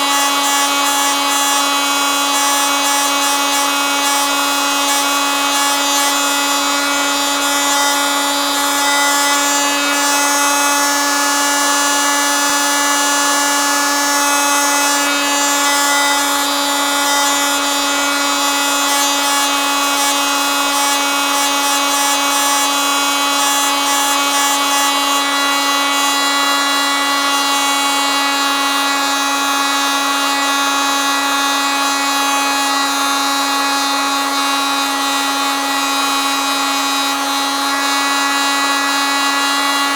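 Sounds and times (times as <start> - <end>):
oscillating multitool buzzing: 0.0 - 34.5.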